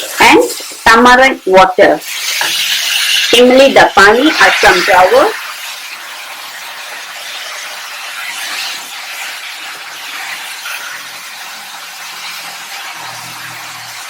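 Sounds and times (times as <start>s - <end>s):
chillies sizzling in hot oil: 0.0s - 14.0s
liquid hissing as it boils: 0.0s - 14.0s.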